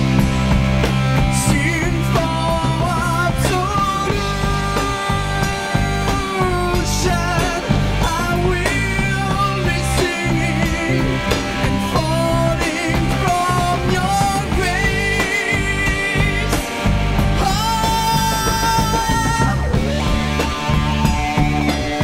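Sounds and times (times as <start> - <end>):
bass guitar: 0.0 - 22.0
electric guitar: 0.0 - 22.0
man singing with vibrato: 1.2 - 22.0.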